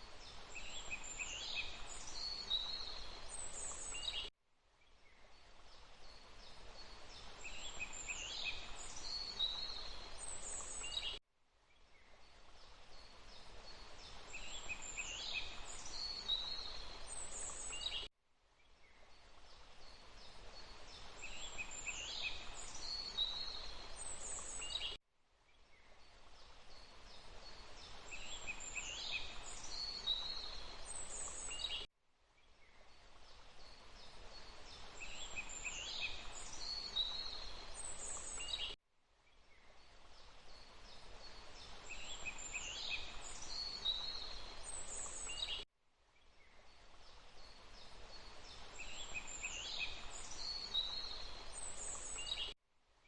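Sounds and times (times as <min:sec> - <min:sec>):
running water hiss: 0:00.0 - 0:04.3, 0:05.1 - 0:11.2, 0:11.9 - 0:18.1, 0:18.9 - 0:25.0, 0:25.8 - 0:31.9, 0:32.6 - 0:38.8, 0:39.5 - 0:45.6, 0:46.4 - 0:52.6.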